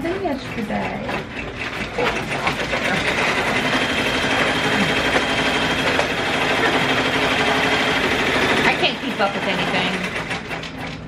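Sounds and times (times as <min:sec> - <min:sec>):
embroidery machine stitching: 0:00.0 - 0:11.0.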